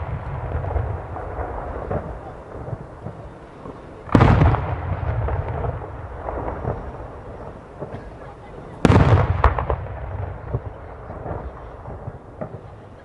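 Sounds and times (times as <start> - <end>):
firework boom: 0.0 - 8.2, 8.8 - 12.8.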